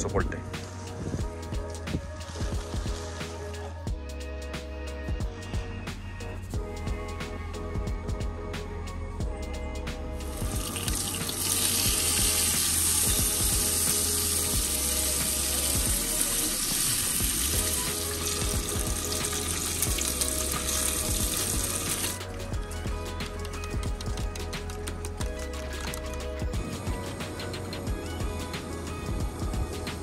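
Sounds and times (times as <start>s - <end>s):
music with steady bass line: 0.0s - 30.0s.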